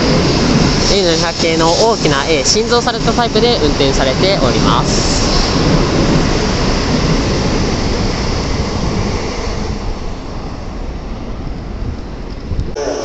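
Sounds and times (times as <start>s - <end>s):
train rushing and rumbling: 0.0s - 13.0s.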